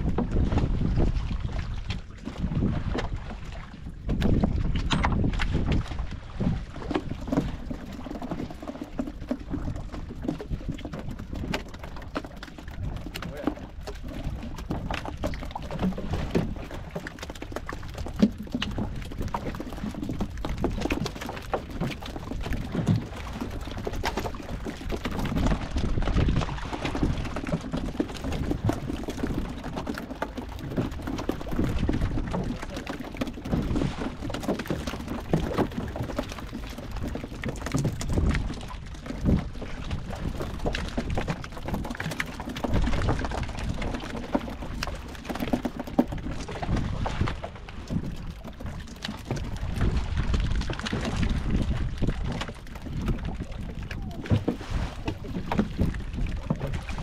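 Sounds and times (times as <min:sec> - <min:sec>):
water slapping against boat hull: 0:00.0 - 0:57.0.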